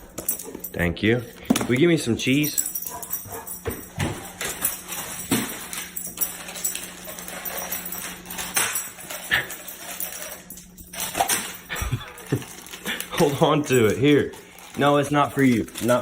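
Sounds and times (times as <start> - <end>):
dog collar tags jingling: 0.0 - 16.0.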